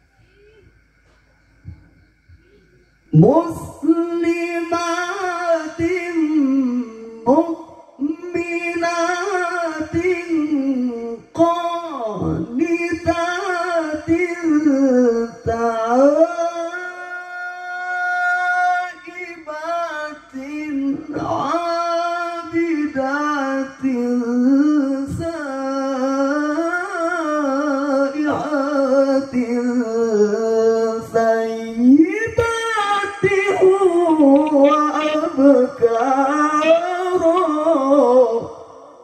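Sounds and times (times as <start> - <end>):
man reciting melodically over pa: 1.0 - 39.0.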